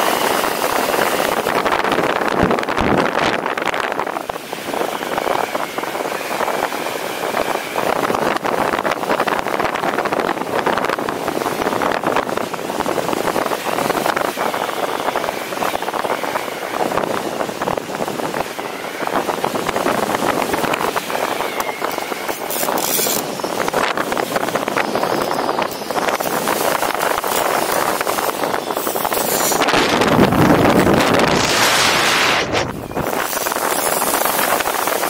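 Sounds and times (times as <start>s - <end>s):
wind rushing on microphone: 0.0s - 35.0s.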